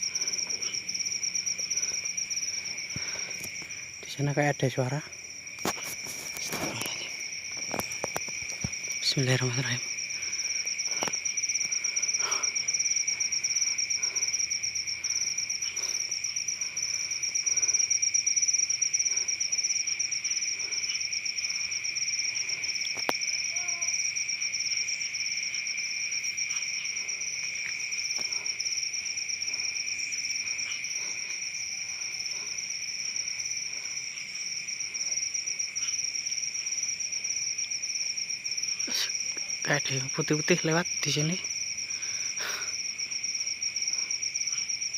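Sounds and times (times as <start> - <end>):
crickets and insects trilling: 0.0 - 44.9.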